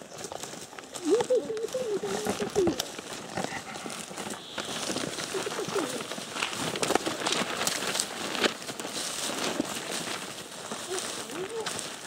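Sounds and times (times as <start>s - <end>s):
clothing and backpacks rustling: 0.0s - 12.0s
footsteps through grass: 0.0s - 12.0s.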